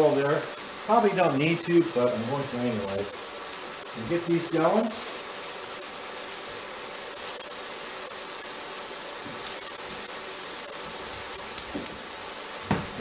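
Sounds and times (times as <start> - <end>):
sausages sizzling on a grill: 0.0 - 13.0.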